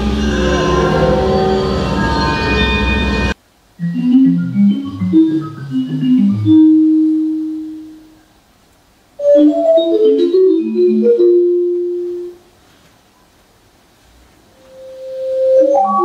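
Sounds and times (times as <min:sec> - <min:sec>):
electronic keyboard notes: 0:00.0 - 0:08.3, 0:09.2 - 0:12.5, 0:14.5 - 0:16.0.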